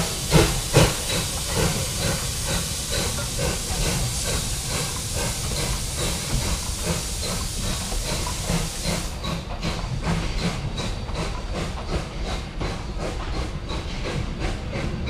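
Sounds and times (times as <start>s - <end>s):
steam hissing: 0.0s - 15.0s
train carriages rumbling past: 0.0s - 15.0s
wheels clicking over rail joints: 0.0s - 15.0s.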